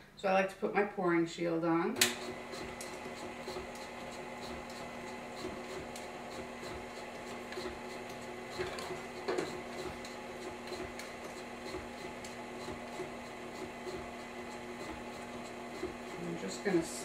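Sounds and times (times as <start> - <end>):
stand mixer humming: 2.0 - 17.0.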